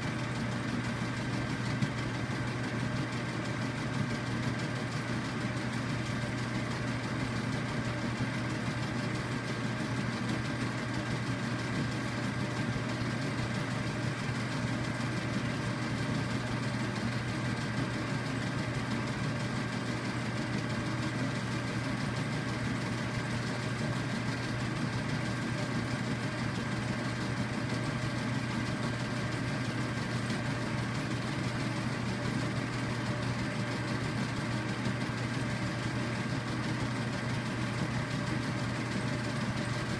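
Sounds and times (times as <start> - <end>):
film player motor humming: 0.0 - 39.9.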